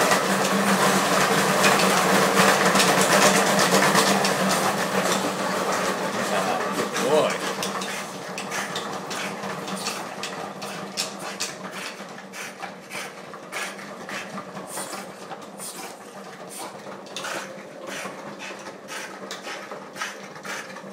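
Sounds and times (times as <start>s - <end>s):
paws clicking on treadmill: 0.0s - 20.9s
treadmill low hum: 0.0s - 20.9s.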